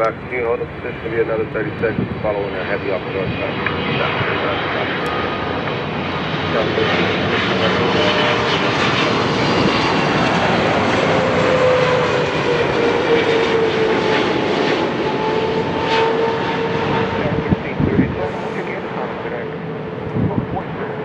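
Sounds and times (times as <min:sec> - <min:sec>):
jet engines passing close by: 0:00.0 - 0:21.0.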